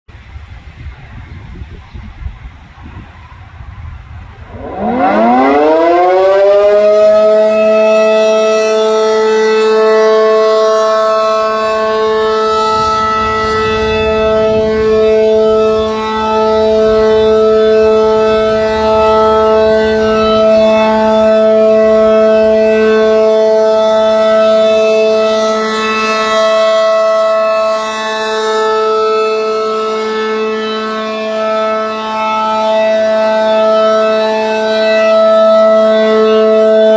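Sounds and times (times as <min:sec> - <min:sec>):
rotating siren two-tone wail: 0:04.2 - 0:36.9.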